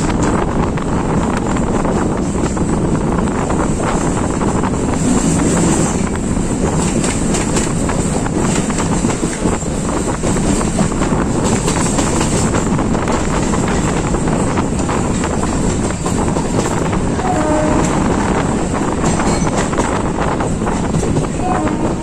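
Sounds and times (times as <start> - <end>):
train rumbling on track: 0.0 - 22.0
wind buffeting microphone: 0.0 - 22.0.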